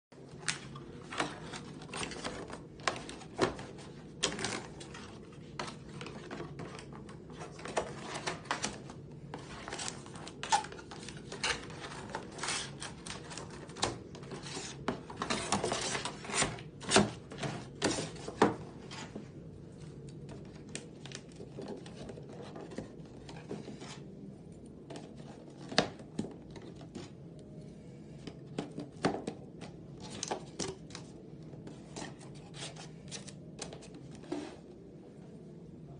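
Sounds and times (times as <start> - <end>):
low steady hum: 0.1 - 35.9.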